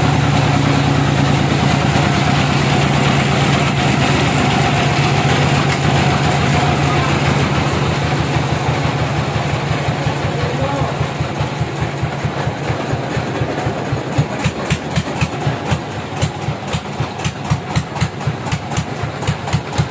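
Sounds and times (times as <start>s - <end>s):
sawmill machinery humming: 0.0s - 19.9s.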